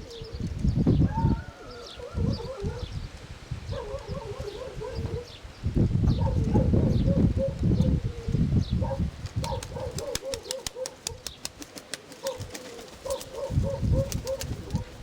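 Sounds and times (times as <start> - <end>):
pigeons cooing: 0.0 - 3.1, 3.7 - 5.4, 6.1 - 15.0
wind buffeting microphone: 0.0 - 11.5, 12.2 - 15.0.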